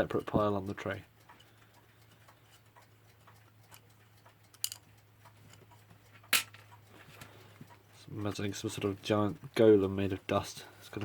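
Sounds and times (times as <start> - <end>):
clock ticking: 0.0 - 10.6.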